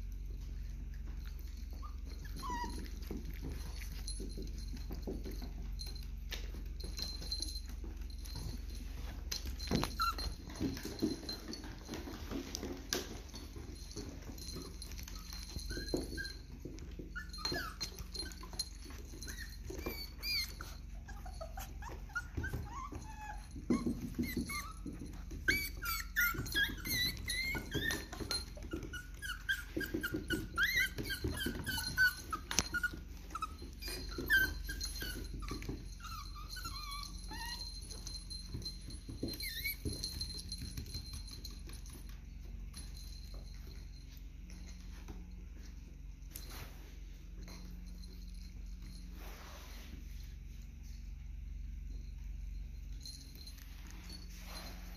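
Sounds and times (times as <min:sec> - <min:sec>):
puppies yipping and whining: 0:00.0 - 0:50.3, 0:53.0 - 0:54.9.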